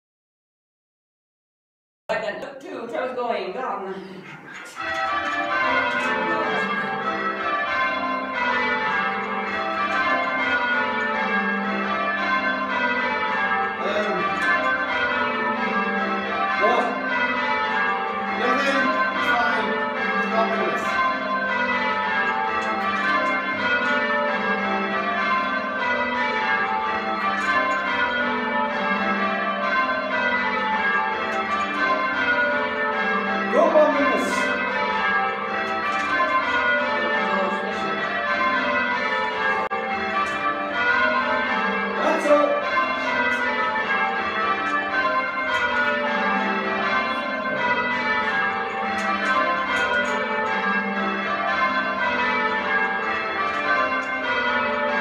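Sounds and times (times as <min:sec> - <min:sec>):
church bells ringing in rounds: 0:02.2 - 0:55.0.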